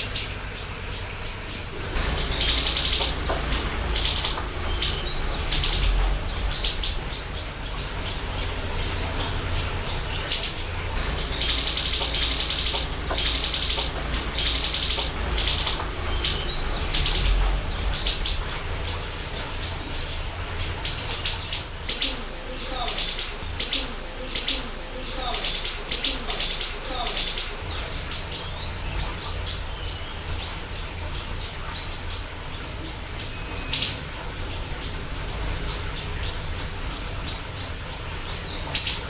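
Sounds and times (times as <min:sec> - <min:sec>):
songbird chirping: 0:00.0 - 0:39.0
steady low hum: 0:00.0 - 0:39.0.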